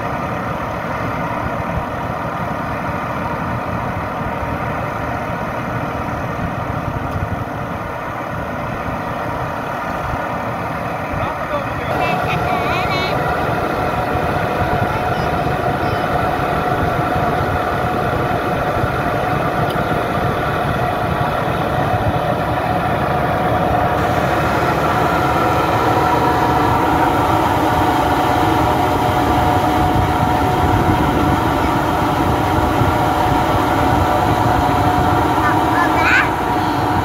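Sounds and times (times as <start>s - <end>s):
steady whine: 0.0s - 37.0s
tractor engine idling: 0.0s - 37.0s.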